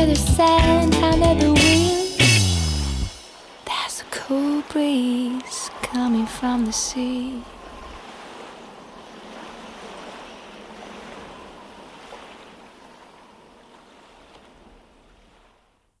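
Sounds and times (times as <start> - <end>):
ocean waves breaking: 0.4 - 15.9.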